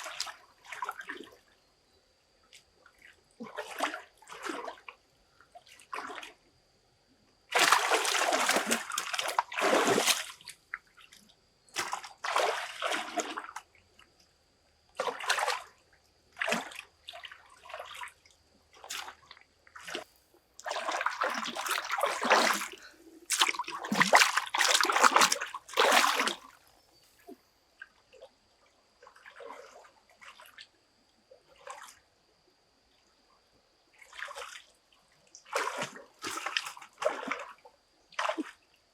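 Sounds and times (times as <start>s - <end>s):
water splashing and sloshing: 0.0s - 1.4s, 2.6s - 5.0s, 5.6s - 6.4s, 7.5s - 14.3s, 14.9s - 28.4s, 29.0s - 30.7s, 31.3s - 32.1s, 34.0s - 38.7s.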